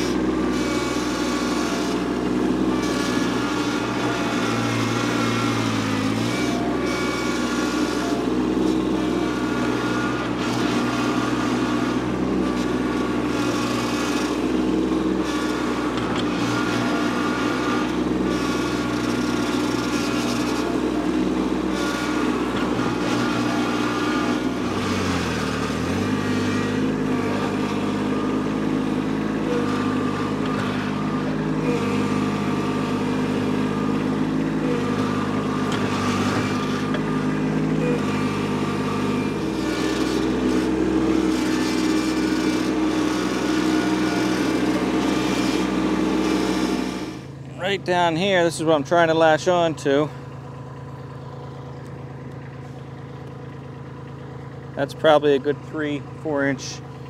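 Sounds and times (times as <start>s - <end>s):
loader bucket digging roots: 0.0s - 57.0s
tractor diesel engine under load: 0.0s - 57.0s.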